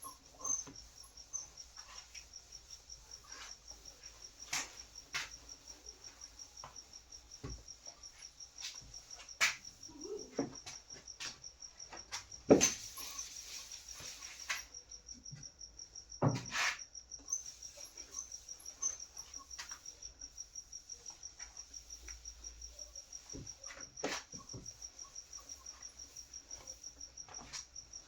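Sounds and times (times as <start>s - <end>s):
cricket chirping: 0.0s - 28.0s.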